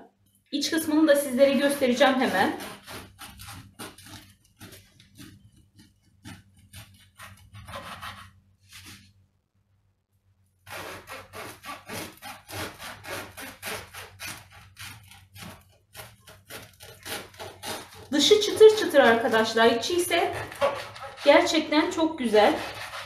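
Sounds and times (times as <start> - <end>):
knife sawing through crusty bread: 1.5 - 9.0, 10.6 - 23.0.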